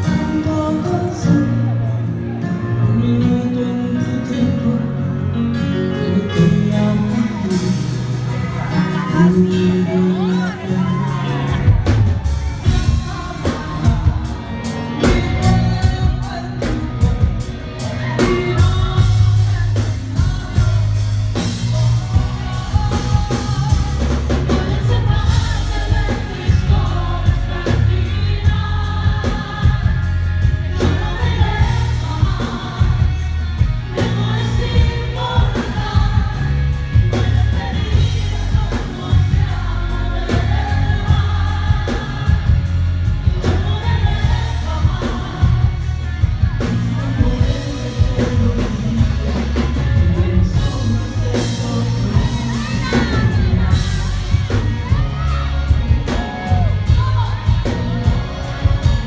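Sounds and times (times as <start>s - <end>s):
backing singers: 0.0s - 59.0s
live pop band playing: 0.0s - 59.0s
woman singing lead: 0.0s - 59.0s.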